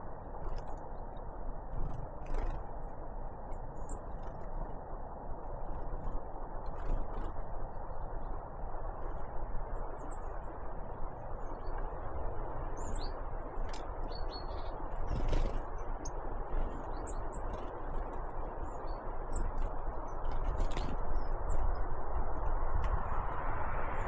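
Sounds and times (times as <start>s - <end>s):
low background rush: 0.0s - 24.0s.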